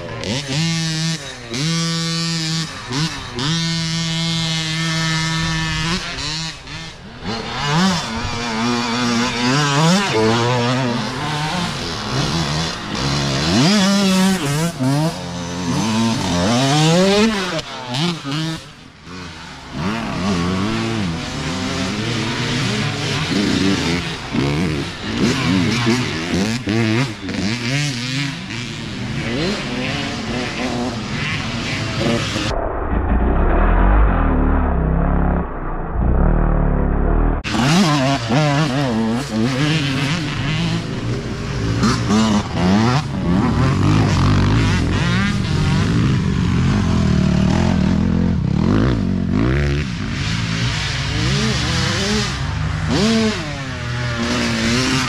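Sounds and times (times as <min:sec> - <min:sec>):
dirt bike engines revving: 0:00.0 - 0:32.6, 0:33.5 - 0:55.0.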